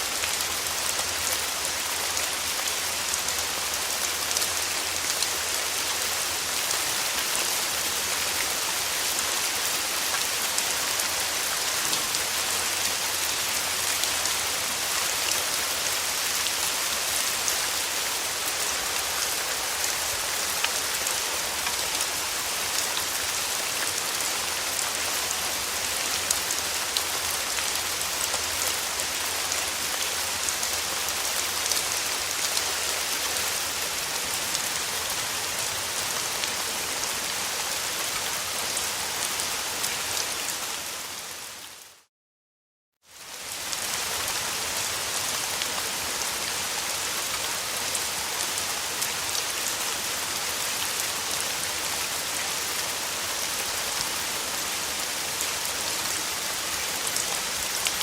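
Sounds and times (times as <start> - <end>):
steady rain: 0.0 - 42.1, 43.0 - 58.0.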